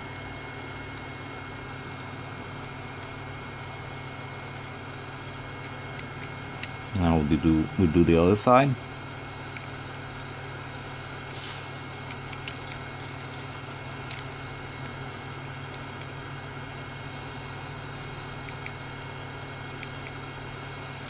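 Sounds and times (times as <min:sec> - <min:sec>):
fan-like hum and hiss: 0:00.0 - 0:21.0.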